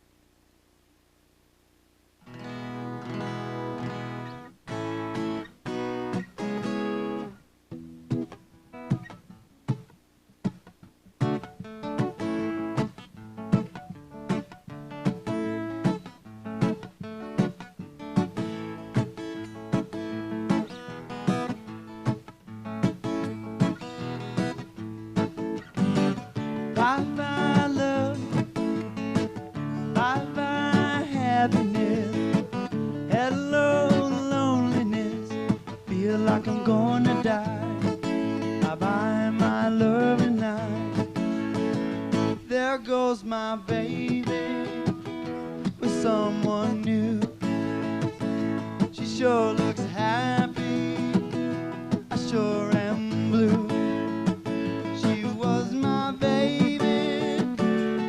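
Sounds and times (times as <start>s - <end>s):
acoustic guitar strumming: 2.2s - 58.0s.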